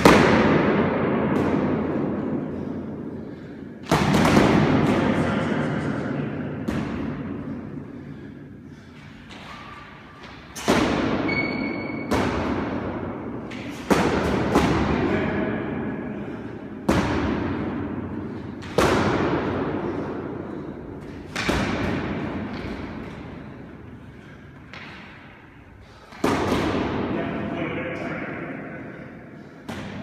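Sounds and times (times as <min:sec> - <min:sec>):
practice swords clashing: 0:00.0 - 0:30.0.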